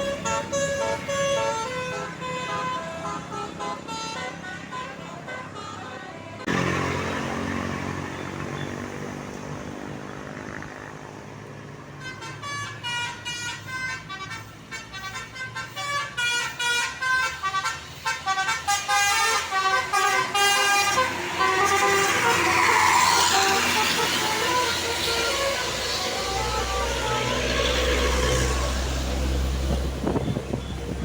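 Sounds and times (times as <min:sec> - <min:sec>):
bus engine passing: 0:00.0 - 0:05.3, 0:06.2 - 0:31.0
musical bus horn tune: 0:00.0 - 0:06.8, 0:11.9 - 0:31.0.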